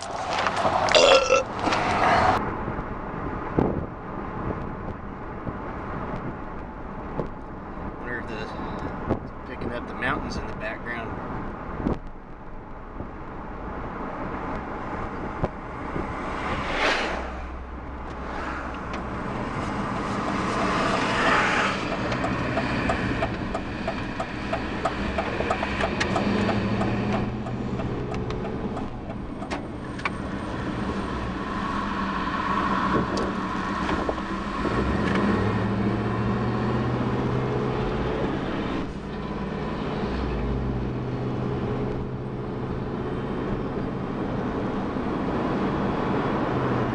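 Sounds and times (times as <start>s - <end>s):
motor vehicles passing: 0.0s - 46.9s.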